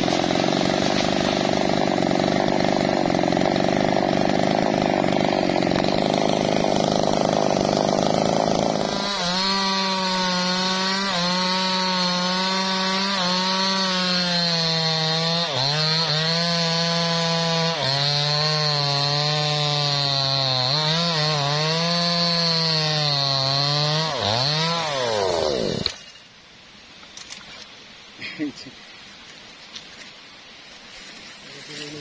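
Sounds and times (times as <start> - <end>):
chainsaw cutting log: 0.0 - 26.2, 31.4 - 32.0.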